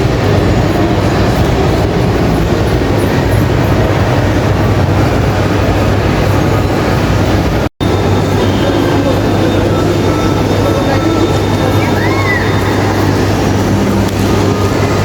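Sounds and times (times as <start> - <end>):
vehicle rumbling in motion: 0.0 - 15.0.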